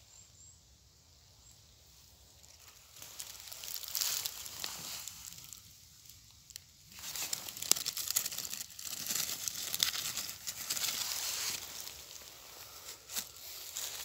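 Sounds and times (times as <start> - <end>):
dry leaves rustling and crackling: 2.4 - 14.0.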